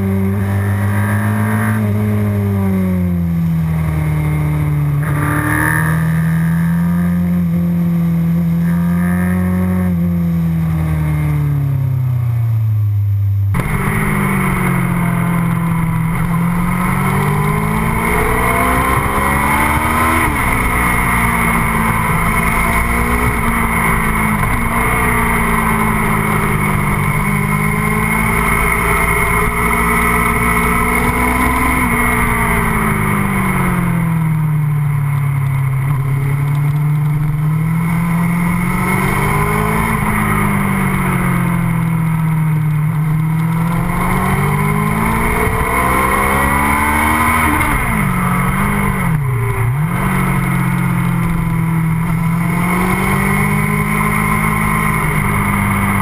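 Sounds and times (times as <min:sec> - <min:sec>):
motorcycle engine revving: 0:00.0 - 0:12.6, 0:13.4 - 0:56.0.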